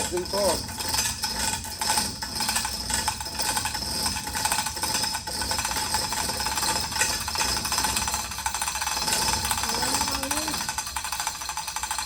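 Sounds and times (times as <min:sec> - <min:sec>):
machinery whining and rattling: 0:00.0 - 0:12.0.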